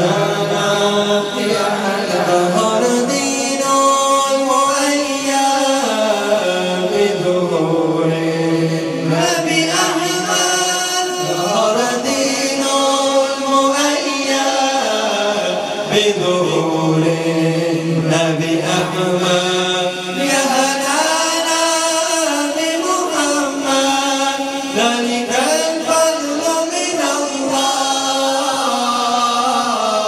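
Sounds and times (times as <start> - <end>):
two men singing: 0.0 - 30.0.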